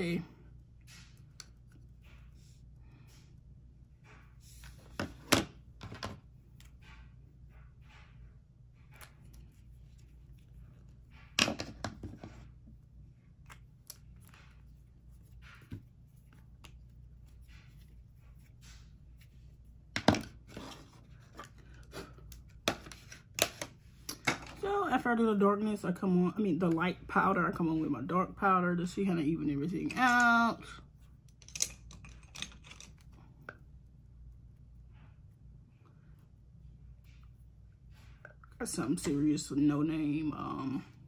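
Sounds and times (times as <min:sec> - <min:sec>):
faint low hum: 0:00.0 - 0:41.0.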